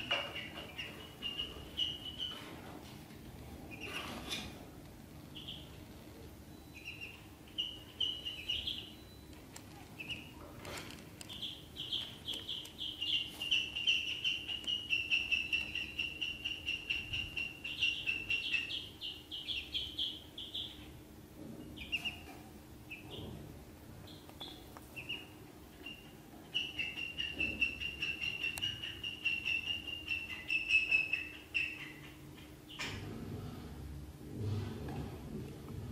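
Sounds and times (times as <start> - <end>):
ducklings peeping: 0.0 - 33.2.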